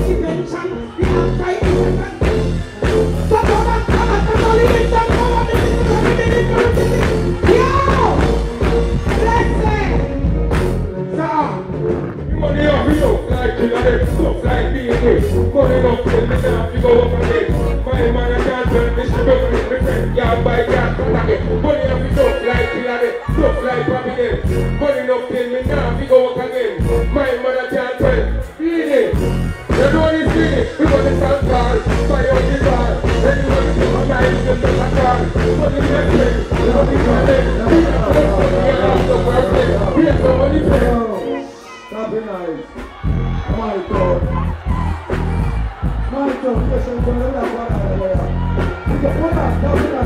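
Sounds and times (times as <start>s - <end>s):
man singing on microphone: 0.0s - 8.4s, 11.0s - 44.9s
dancehall reggae bass beat: 0.0s - 50.0s.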